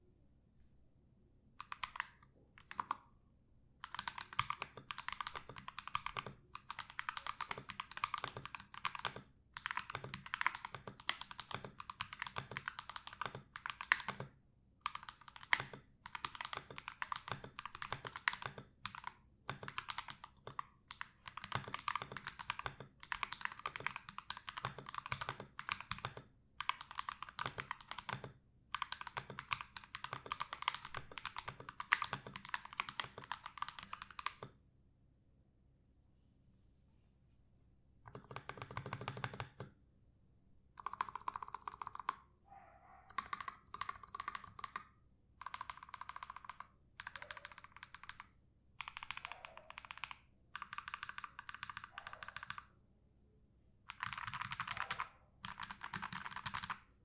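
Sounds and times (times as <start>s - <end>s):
mechanical keyboard typing: 1.6s - 3.1s, 3.8s - 34.6s, 38.1s - 39.8s, 40.8s - 42.3s, 43.1s - 52.7s, 53.9s - 56.9s.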